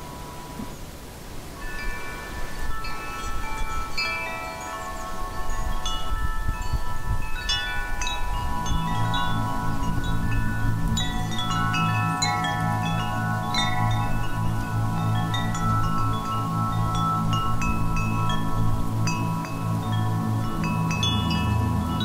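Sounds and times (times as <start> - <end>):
light wind rumble: 0.0 - 22.0
wind chimes ringing: 0.0 - 22.0.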